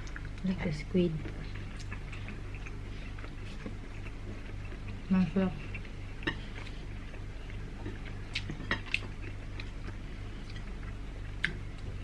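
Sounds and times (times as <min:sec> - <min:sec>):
steady low hum: 0:00.0 - 0:12.0
person chewing: 0:01.2 - 0:12.0.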